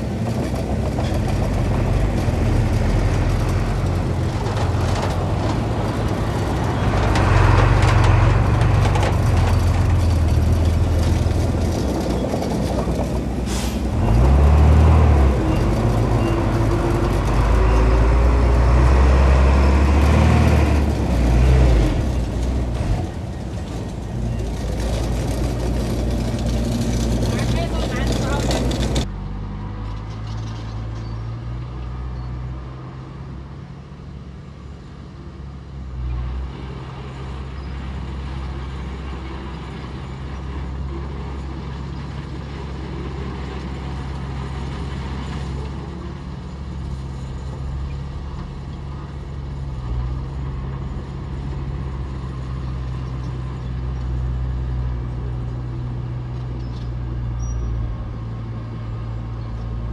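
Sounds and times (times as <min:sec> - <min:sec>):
heavy diesel machinery engine drone: 0:00.0 - 0:31.2, 0:31.8 - 0:59.9.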